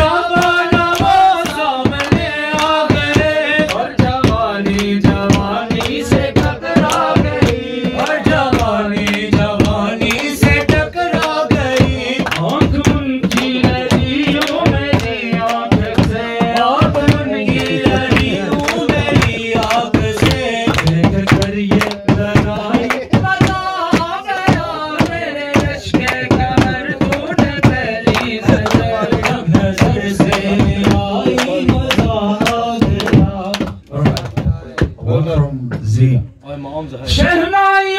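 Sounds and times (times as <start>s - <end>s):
man singing into microphone: 0.0s - 36.2s, 37.1s - 37.9s
rhythmic percussive beat: 0.0s - 36.3s.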